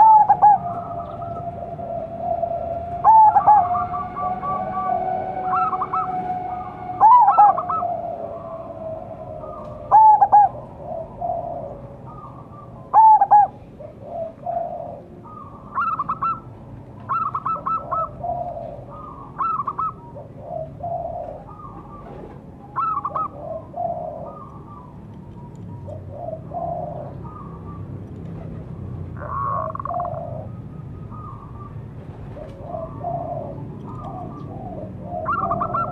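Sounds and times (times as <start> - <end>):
dove cooing: 0.0 - 35.9.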